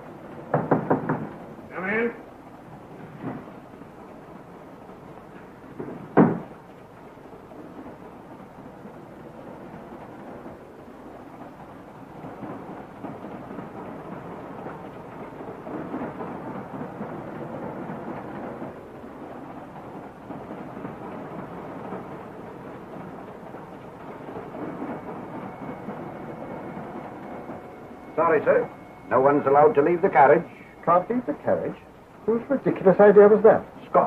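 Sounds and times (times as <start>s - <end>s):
moving train rumble and rattle: 0.0s - 34.0s.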